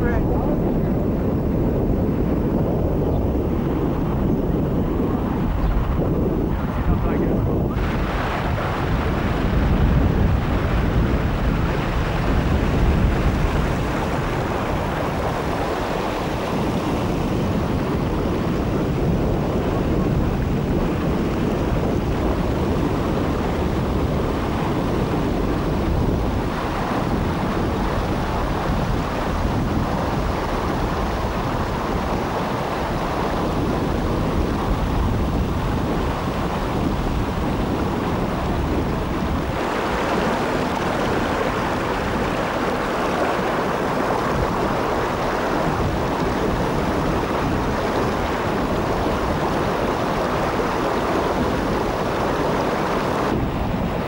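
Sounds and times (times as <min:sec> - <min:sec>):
wind noise on microphone: 0:00.0 - 0:54.0
floodwater rushing: 0:05.9 - 0:54.0.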